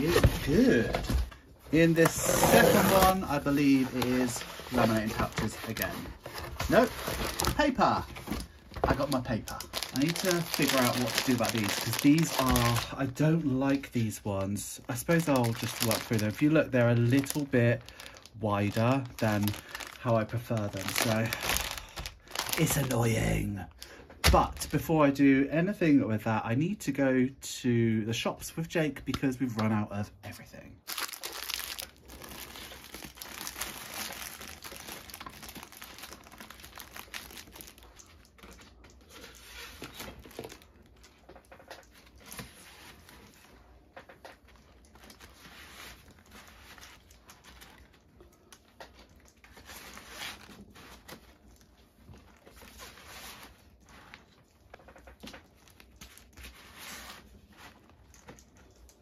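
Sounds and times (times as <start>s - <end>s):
plastic packaging crinkling: 1.9s - 23.8s, 30.8s - 59.0s.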